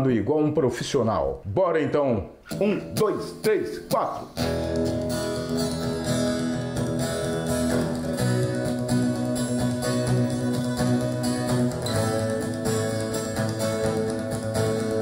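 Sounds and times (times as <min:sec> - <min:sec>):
acoustic guitar strumming chords: 0:02.5 - 0:15.0.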